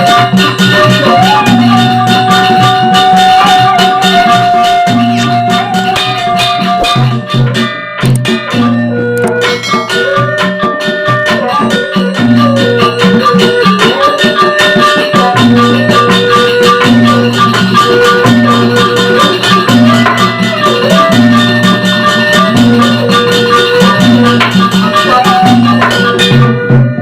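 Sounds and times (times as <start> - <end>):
gamelan ensemble playing: 0.0 - 27.0.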